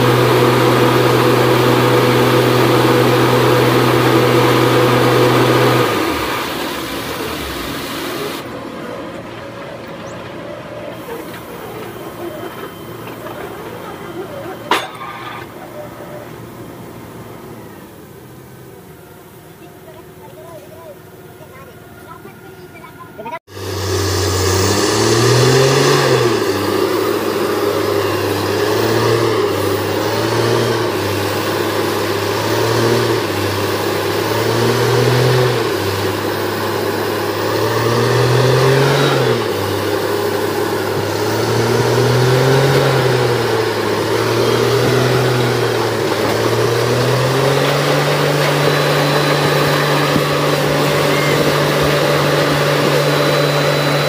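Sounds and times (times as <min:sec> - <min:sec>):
heavy diesel engine revving: 0:00.0 - 0:20.1, 0:23.4 - 0:54.0.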